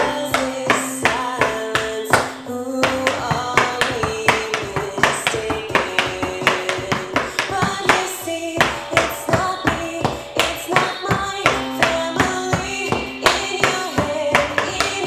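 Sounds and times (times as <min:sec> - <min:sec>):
song with singing voice: 0:00.0 - 0:15.0
tap shoes on wooden board: 0:00.0 - 0:15.0.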